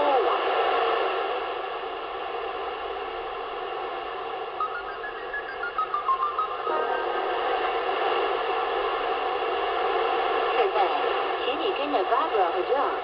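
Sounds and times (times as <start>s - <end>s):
radio hiss and static: 0.0s - 13.0s.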